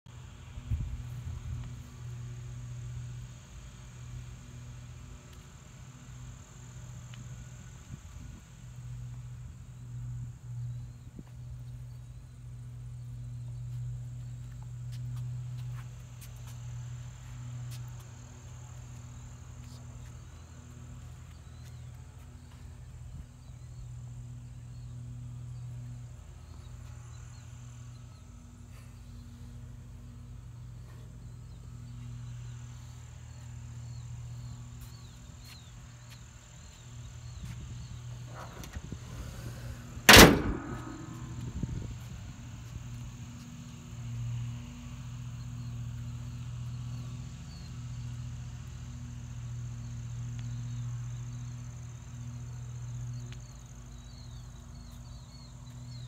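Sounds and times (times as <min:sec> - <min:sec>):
crickets chirping: 0:05.7 - 0:56.0.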